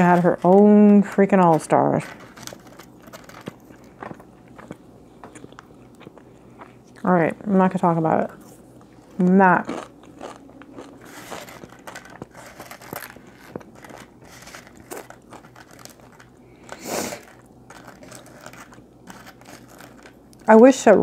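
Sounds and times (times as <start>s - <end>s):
chewing food: 0.0s - 7.1s, 8.4s - 20.6s.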